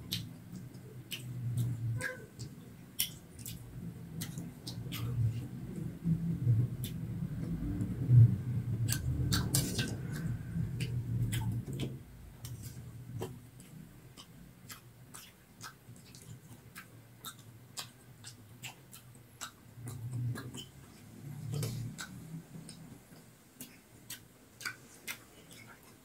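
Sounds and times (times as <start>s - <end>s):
chewing crunchy rice: 0.1s - 5.9s, 8.9s - 26.0s.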